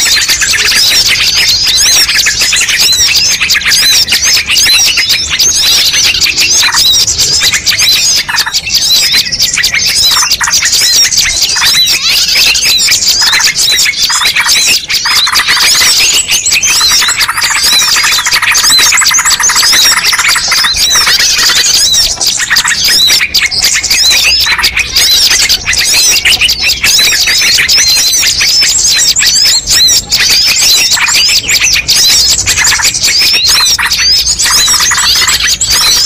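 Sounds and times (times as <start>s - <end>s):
fast bird trill: 0.0s - 36.0s
songbirds chirping and whistling: 0.0s - 36.0s.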